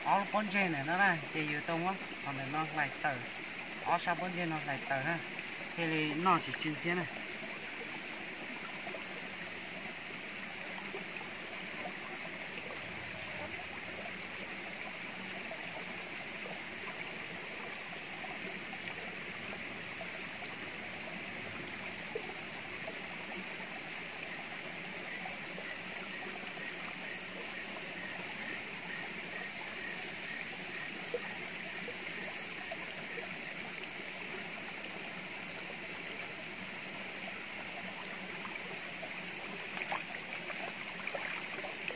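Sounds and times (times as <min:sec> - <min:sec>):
stream rushing over rock: 0:00.0 - 0:41.9.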